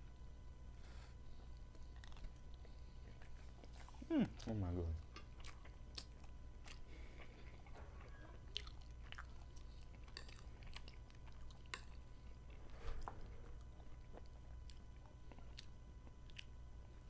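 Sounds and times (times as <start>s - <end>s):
chewing pasta: 1.4s - 17.0s.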